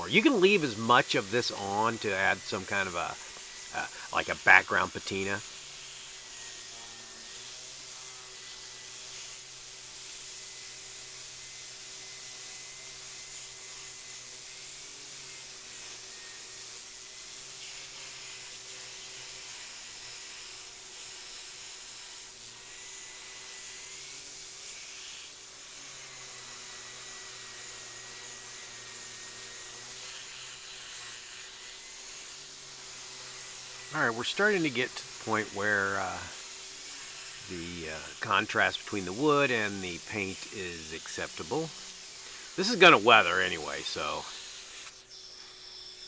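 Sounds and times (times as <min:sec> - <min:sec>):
electric sander on wood: 0:00.0 - 0:46.0.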